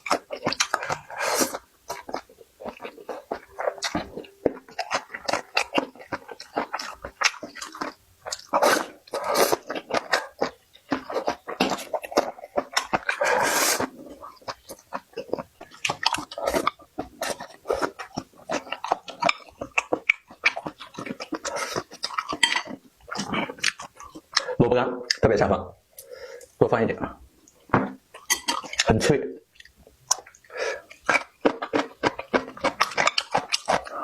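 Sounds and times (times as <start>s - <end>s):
person chewing and smacking: 0.0s - 25.2s, 27.4s - 28.9s, 29.5s - 34.0s.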